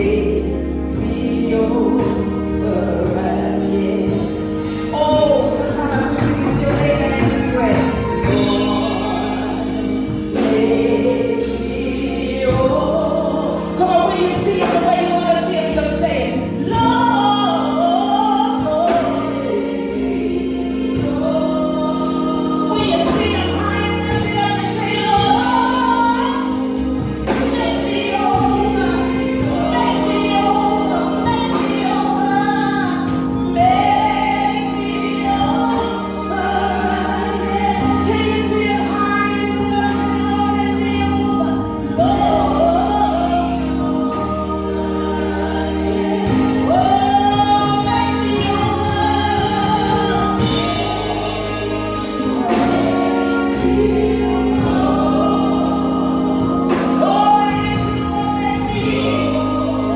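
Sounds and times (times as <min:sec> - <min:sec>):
female backing singers: 0:00.0 - 0:59.9
instrumental accompaniment: 0:00.0 - 0:59.9
woman singing gospel: 0:00.0 - 0:59.9.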